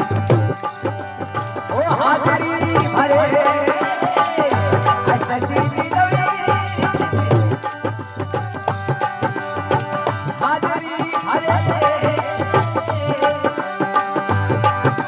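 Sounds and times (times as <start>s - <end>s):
hand drum rhythm: 0.0s - 15.0s
person singing: 1.3s - 15.0s.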